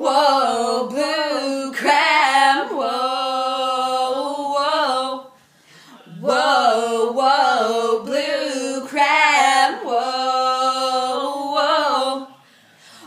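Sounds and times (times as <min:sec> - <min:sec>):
women singing a cappella: 0:00.0 - 0:05.4, 0:06.1 - 0:12.4.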